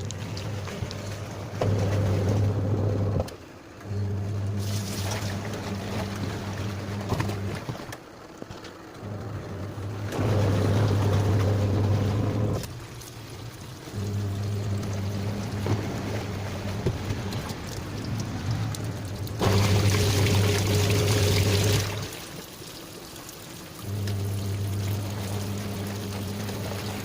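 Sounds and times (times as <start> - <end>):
water churning in tub: 0.0 - 8.0, 8.9 - 27.0
washing machine motor running: 0.0 - 27.0.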